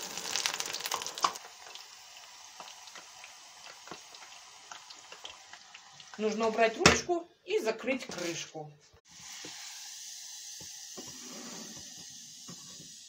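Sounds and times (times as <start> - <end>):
potatoes sizzling in hot oil: 0.0 - 6.6, 9.1 - 13.0.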